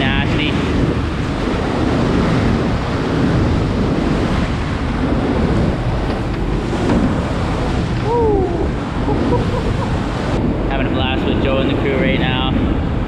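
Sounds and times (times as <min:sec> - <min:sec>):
waves churning along boat: 0:00.0 - 0:13.0
wind on microphone: 0:00.0 - 0:13.0.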